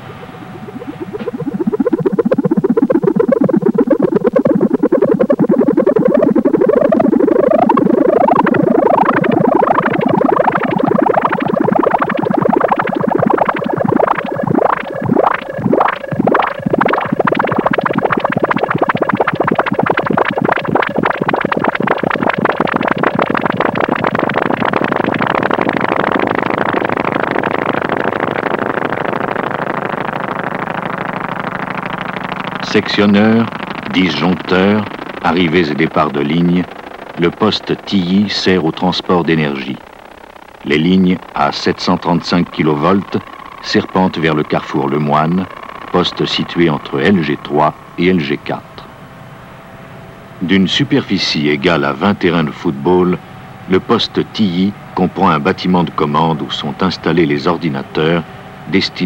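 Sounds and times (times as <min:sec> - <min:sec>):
electronic synthesizer music: 0:00.0 - 0:59.0.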